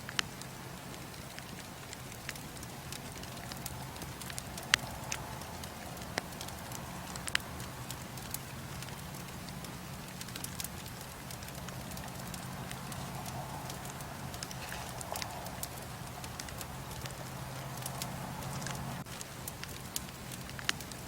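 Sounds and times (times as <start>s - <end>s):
bonfire hissing: 0.0s - 21.0s
fire popping and crackling: 0.0s - 21.0s.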